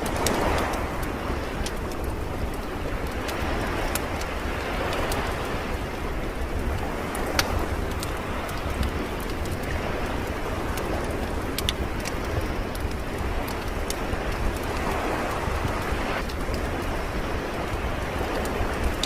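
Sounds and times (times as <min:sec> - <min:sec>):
ocean surf: 0:00.0 - 0:19.0
wood fire crackling and popping: 0:00.0 - 0:19.0.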